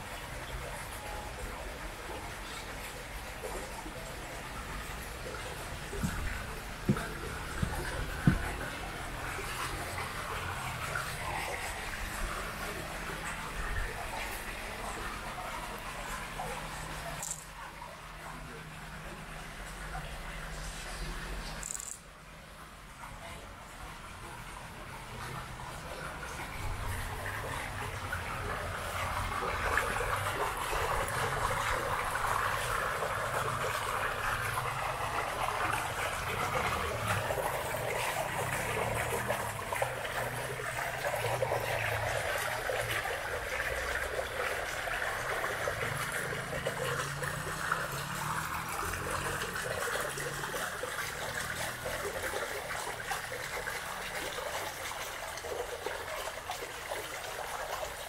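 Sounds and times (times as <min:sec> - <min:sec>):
water trickling into a pool: 0:00.0 - 0:58.0.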